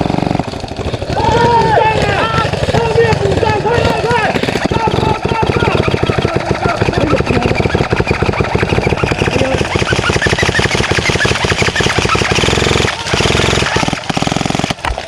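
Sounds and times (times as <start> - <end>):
airsoft rifles firing full auto: 0.0 - 15.0.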